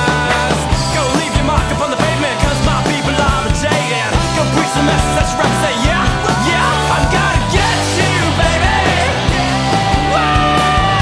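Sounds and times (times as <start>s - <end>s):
rock song with singing: 0.0s - 11.0s.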